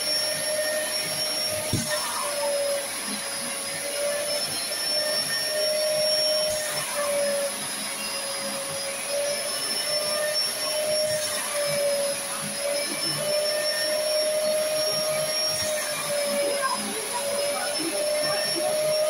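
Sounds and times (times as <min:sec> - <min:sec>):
vacuum motor whining: 0:00.0 - 0:19.0.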